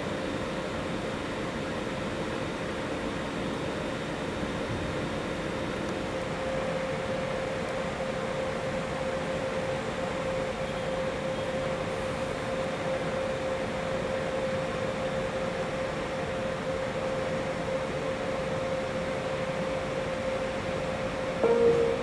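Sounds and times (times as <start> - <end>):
diesel locomotive drone: 0.0 - 22.0.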